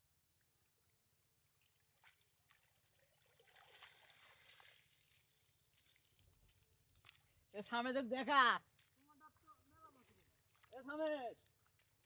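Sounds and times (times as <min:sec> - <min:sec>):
water trickling and dripping: 0:00.2 - 0:12.0.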